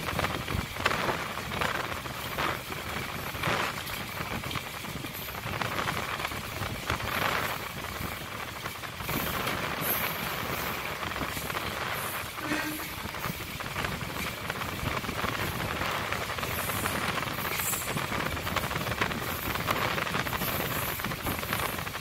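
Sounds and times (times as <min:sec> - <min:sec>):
train carriage rushing and rattling: 0:00.0 - 0:22.0.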